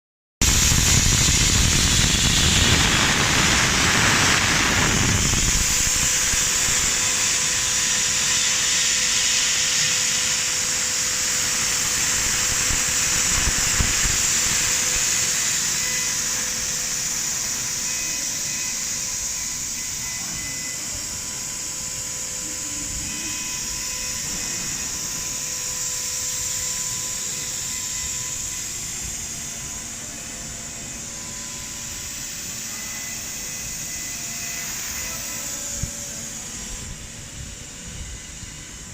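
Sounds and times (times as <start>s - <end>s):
engraving machine spindle hiss: 0.4s - 38.9s
faint machine whine: 0.4s - 38.9s.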